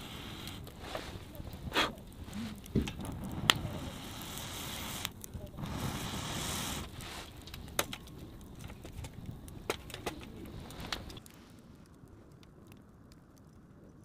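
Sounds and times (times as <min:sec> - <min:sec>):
sharp fire pops: 0:00.0 - 0:12.6
wood fire crackling: 0:00.0 - 0:14.0.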